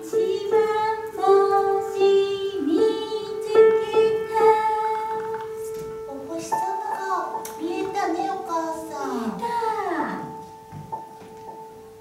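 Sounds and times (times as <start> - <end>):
light instrumental accompaniment: 0.0 - 12.0.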